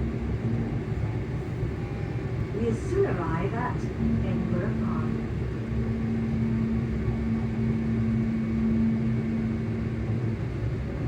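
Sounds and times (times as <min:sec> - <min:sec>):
train running rumble: 0:00.0 - 0:11.0
train traction motor hum: 0:00.0 - 0:11.0.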